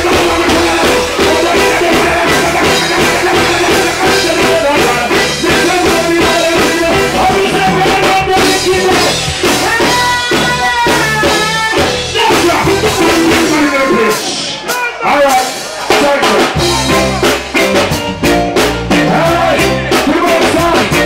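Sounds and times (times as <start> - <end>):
man singing into microphone: 0.0 - 17.0, 19.0 - 21.0
drum kit beat: 0.0 - 21.0
live reggae band: 0.0 - 21.0.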